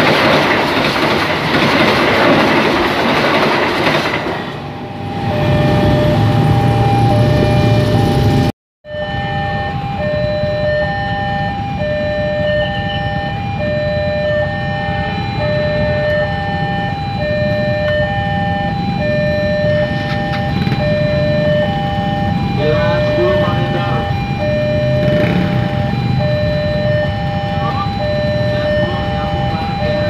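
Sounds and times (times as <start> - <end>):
two-tone crossing alarm: 0.0 - 30.0.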